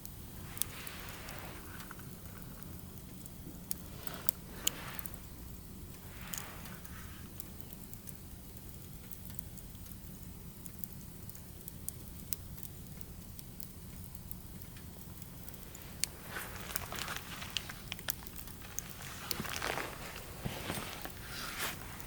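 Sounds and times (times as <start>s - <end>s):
fire popping and crackling: 0.0s - 22.0s
firewood burning rumble: 0.0s - 22.0s.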